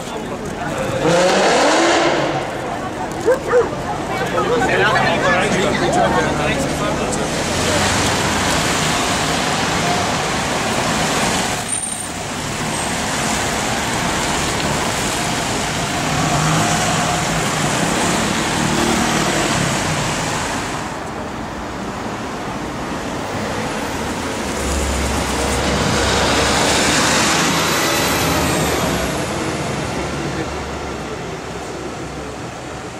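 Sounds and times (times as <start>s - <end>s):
city street traffic: 0.0s - 32.9s
double-decker bus passing: 0.0s - 32.9s.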